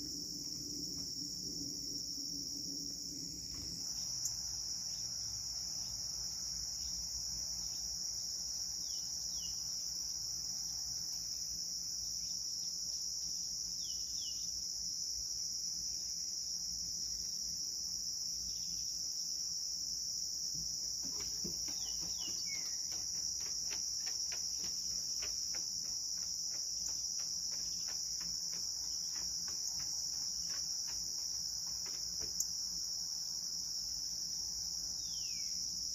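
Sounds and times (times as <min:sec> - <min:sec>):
insects chorus: 0:00.0 - 0:35.9.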